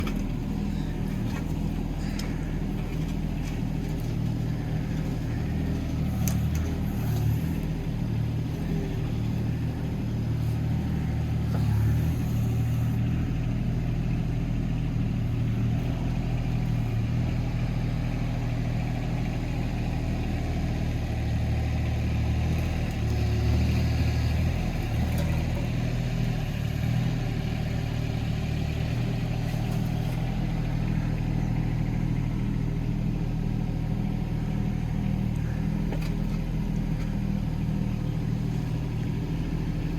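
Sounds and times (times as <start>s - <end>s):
mini excavator diesel engine: 0.0s - 39.9s.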